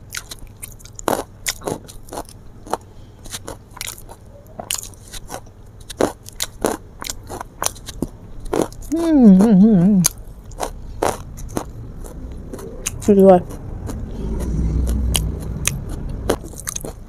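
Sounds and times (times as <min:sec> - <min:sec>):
person eating crunchy food: 0:00.0 - 0:17.0.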